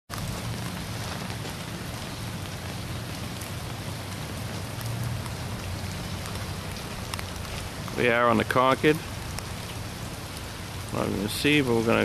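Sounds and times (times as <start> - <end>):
rain falling: 0.1 - 12.0.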